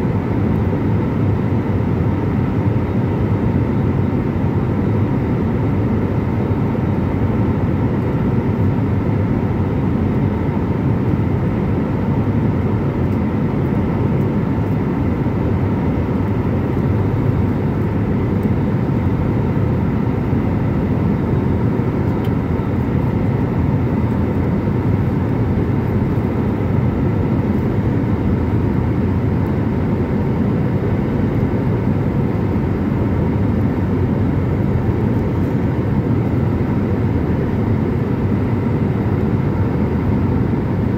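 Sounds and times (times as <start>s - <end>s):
faint steady whine: 0.0s - 40.9s
jet engine rumble in cabin: 0.0s - 40.9s.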